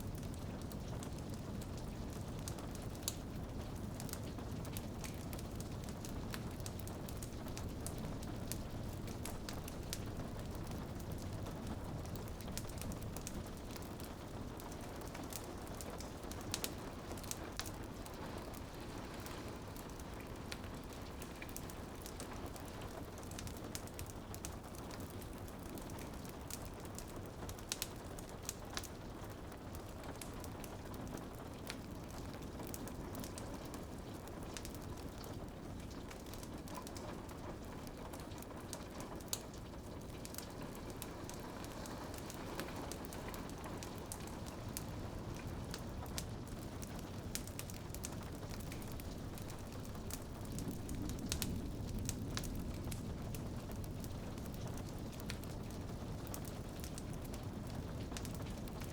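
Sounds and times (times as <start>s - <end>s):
rain on a window: 0.0s - 58.9s
wood fire crackling: 0.0s - 58.9s.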